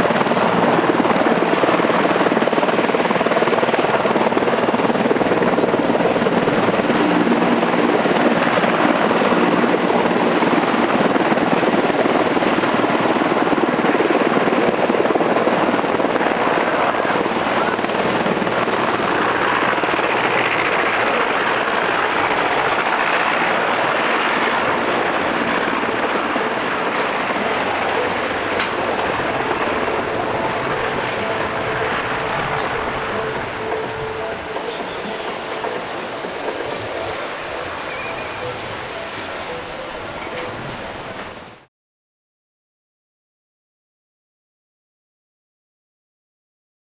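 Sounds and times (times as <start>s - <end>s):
helicopter rotor rushing: 0.0s - 41.3s
helicopter engine whine: 0.0s - 41.7s.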